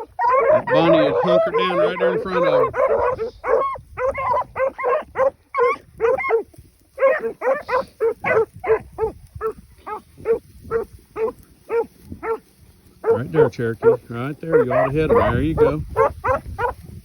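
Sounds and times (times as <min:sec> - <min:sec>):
beagles baying: 0:00.0 - 0:16.8.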